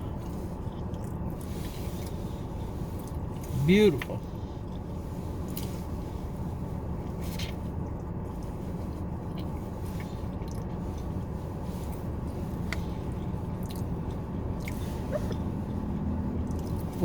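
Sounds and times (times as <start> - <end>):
person chewing food: 0.0 - 3.5, 4.3 - 5.7, 7.0 - 15.8, 16.4 - 16.9
steady low rumble: 0.0 - 17.0.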